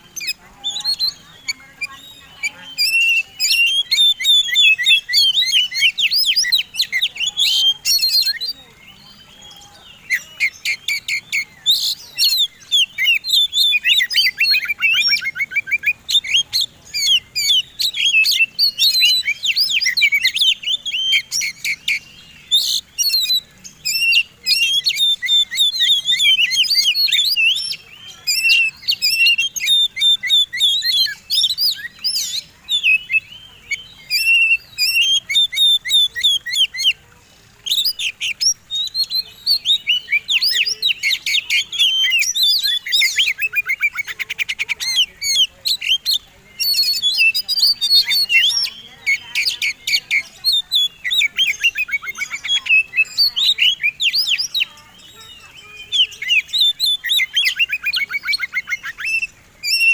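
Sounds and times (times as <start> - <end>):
songbird whistles and chirps: 0.0 - 59.9.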